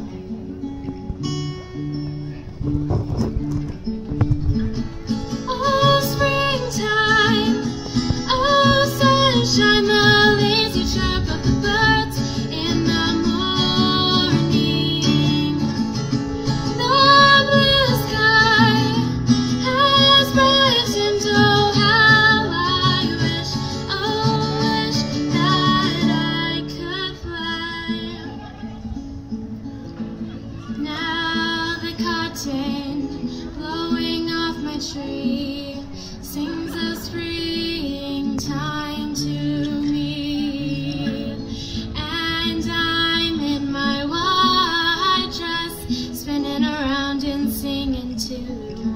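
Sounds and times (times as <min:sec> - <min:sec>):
strummed acoustic guitar: 0:00.0 - 0:48.9
woman singing: 0:05.3 - 0:28.6, 0:30.7 - 0:48.9.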